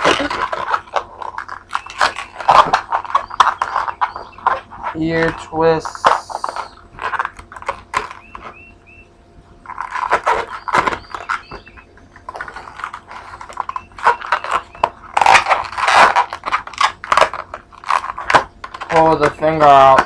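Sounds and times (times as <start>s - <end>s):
balloons rubbing and crinkling: 0.0s - 8.8s, 9.6s - 20.0s
balloon squeaks: 0.0s - 20.0s.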